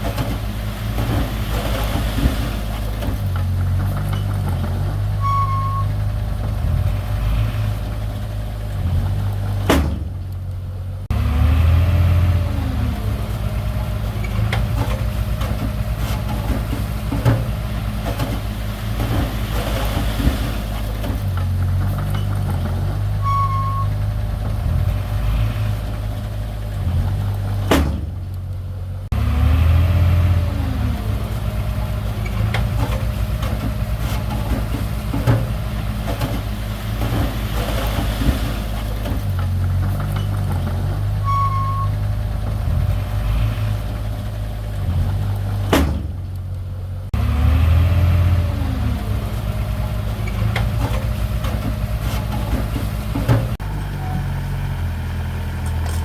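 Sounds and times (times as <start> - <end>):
earthmoving machinery diesel engines: 0.0 - 56.0.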